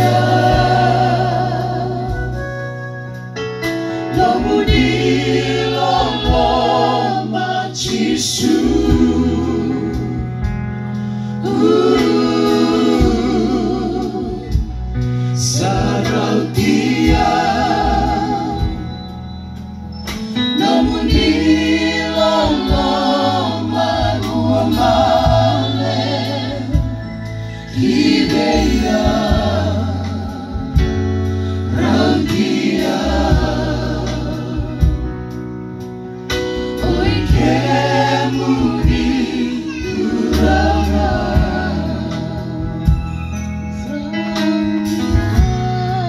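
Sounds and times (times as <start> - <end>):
group singing gospel song: 0.0 - 46.0
sustained low bass notes: 0.0 - 46.0.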